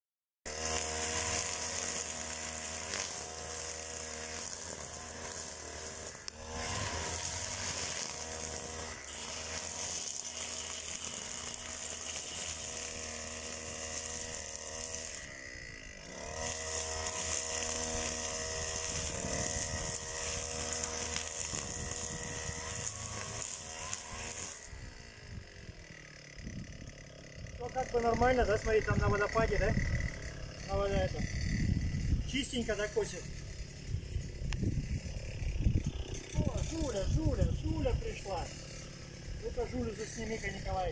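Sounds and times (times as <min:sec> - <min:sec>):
string trimmer engine revving: 0:00.5 - 0:40.9
trimmer line cutting grass: 0:00.5 - 0:40.9.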